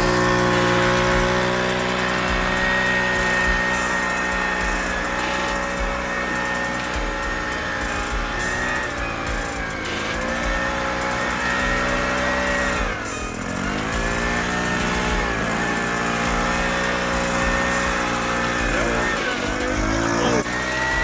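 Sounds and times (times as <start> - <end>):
small motor-driven machine running: 0.0 - 21.0.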